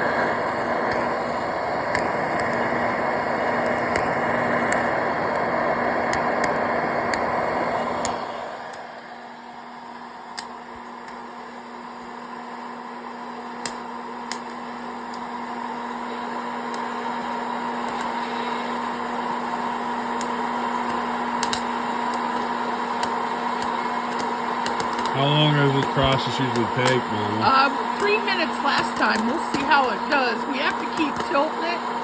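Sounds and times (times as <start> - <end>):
popcorn kernels popping: 0.0 - 8.9, 10.1 - 12.3, 13.4 - 31.7
popcorn popper blower whir: 0.0 - 32.0.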